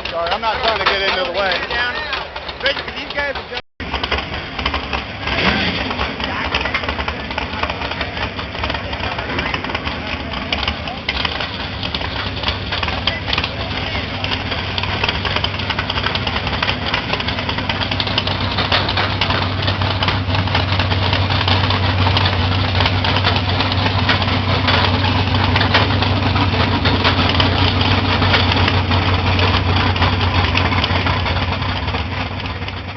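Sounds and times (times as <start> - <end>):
monster truck engine running: 0.0 - 32.9.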